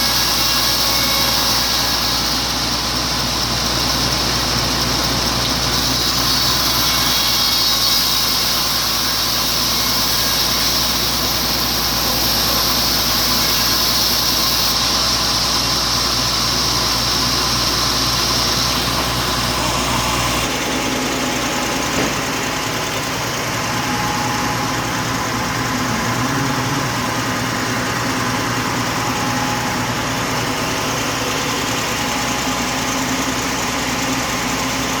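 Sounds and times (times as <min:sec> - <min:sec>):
sawmill machinery drone: 0:00.0 - 0:35.0.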